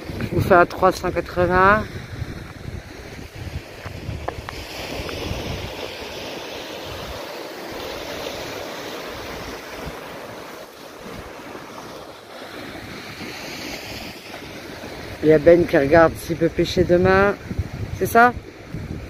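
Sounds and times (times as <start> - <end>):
sea waves breaking on rocks: 0.0 - 19.0
wind rumbling on microphone: 0.0 - 19.0.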